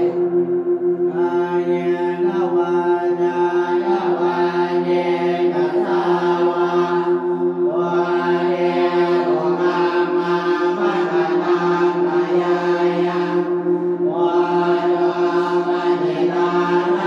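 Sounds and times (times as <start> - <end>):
droning chanting voices: 0.0 - 17.0
pulsing drone note: 0.0 - 17.0.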